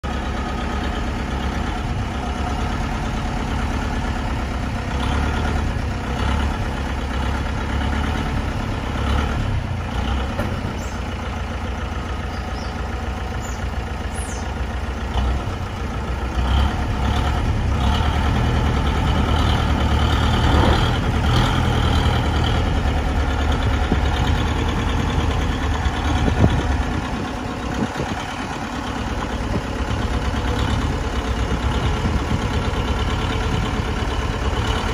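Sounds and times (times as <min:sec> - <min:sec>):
lorry engine at low revs: 0:00.0 - 0:34.9.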